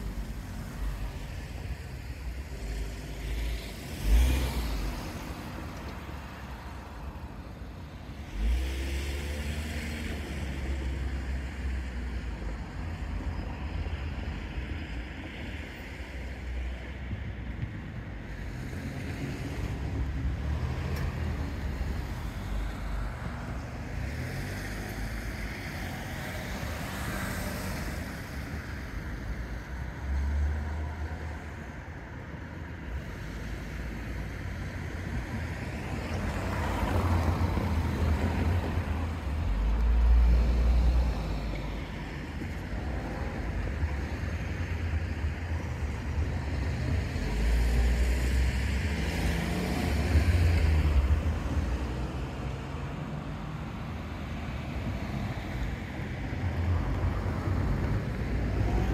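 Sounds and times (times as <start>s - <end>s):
cars passing: 0.0s - 58.9s.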